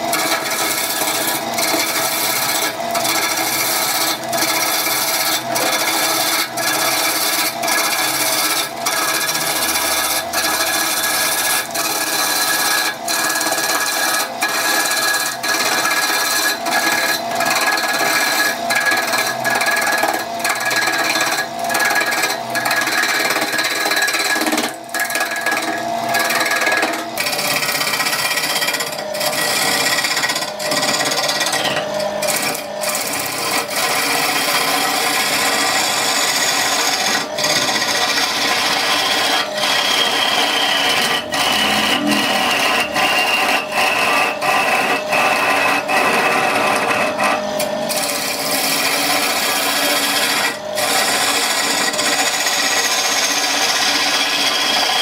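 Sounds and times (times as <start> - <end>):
power tool whining through wood: 0.0 - 55.0.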